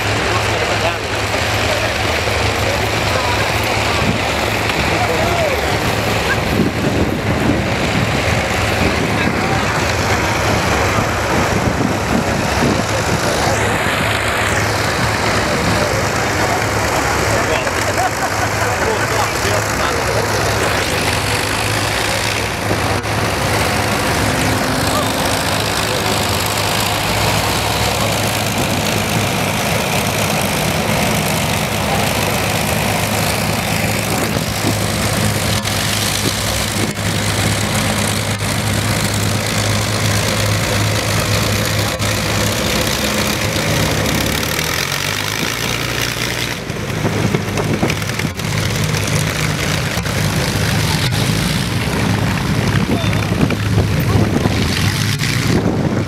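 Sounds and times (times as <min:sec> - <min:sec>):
aircraft engines droning: 0:00.0 - 0:56.0.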